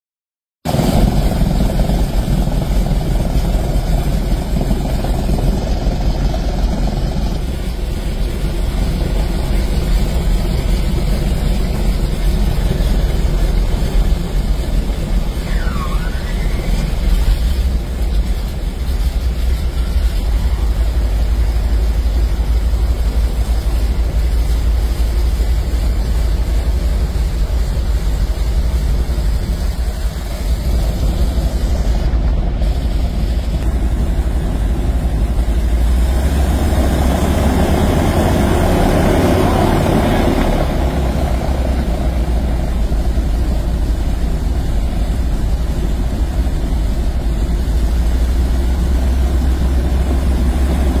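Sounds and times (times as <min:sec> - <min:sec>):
aircraft engines droning: 0:00.7 - 0:51.0.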